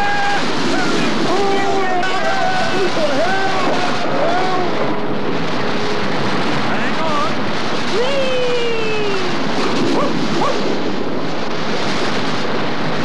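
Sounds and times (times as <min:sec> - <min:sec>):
cartoon rushing water roar: 0:00.0 - 0:13.0.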